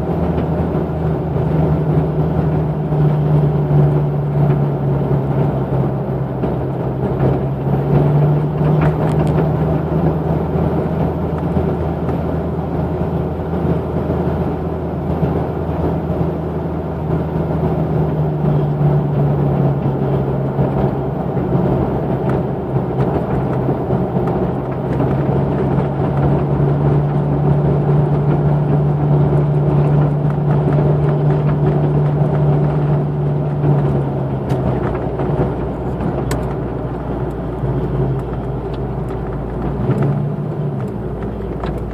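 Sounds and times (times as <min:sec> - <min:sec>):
car exhaust droning: 0:00.0 - 0:41.9.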